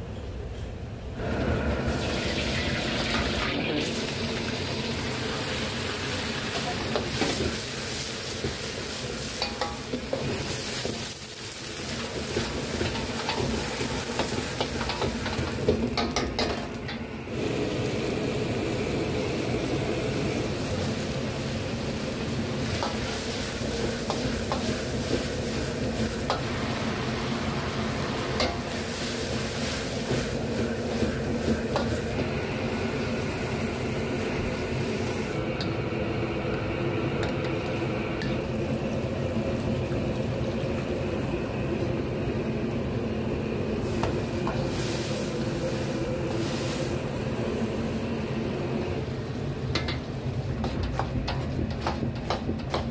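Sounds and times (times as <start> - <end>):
food sizzling in a wok: 1.2 - 52.9.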